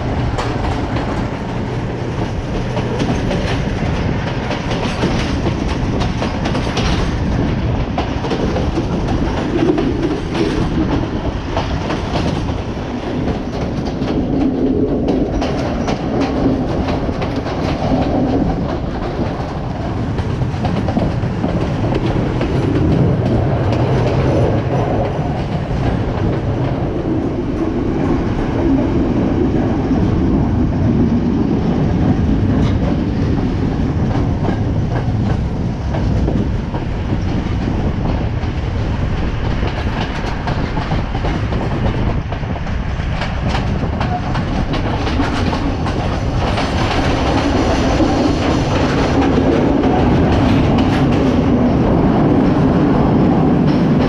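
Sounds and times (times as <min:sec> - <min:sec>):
train rumbling: 0:00.0 - 0:54.0
wheels clicking over rail joints: 0:00.0 - 0:54.0.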